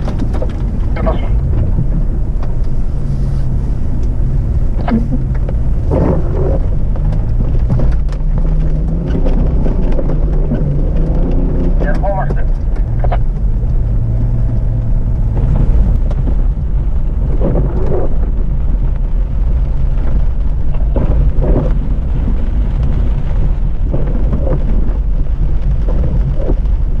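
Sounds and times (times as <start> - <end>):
off-road vehicle engine rumbling: 0.0 - 27.0.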